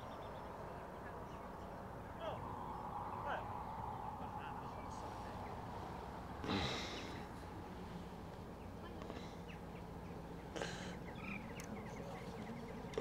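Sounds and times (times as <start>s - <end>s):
boat engine hum: 0.0s - 13.0s.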